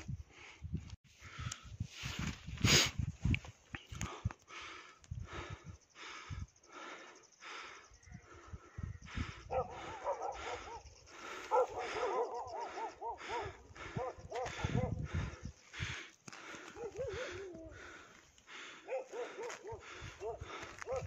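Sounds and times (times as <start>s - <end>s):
person panting: 3.8s - 21.0s.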